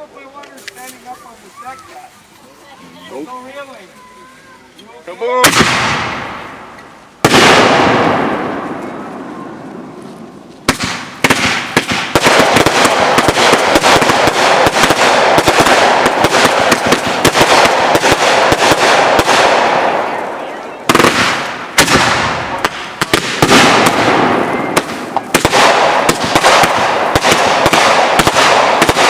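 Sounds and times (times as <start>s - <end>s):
firework crackling: 0.6s - 29.0s
firework bangs: 5.3s - 29.0s.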